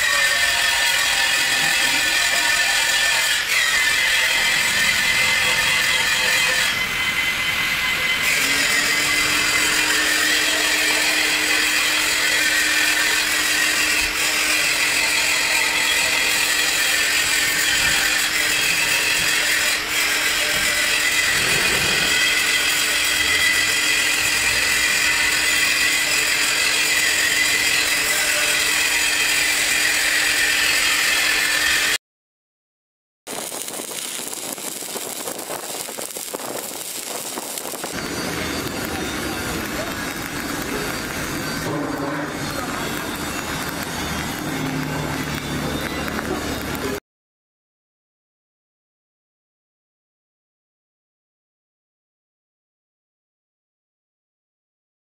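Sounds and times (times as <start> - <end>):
welding arc hissing: 0.0 - 32.0, 33.3 - 47.0.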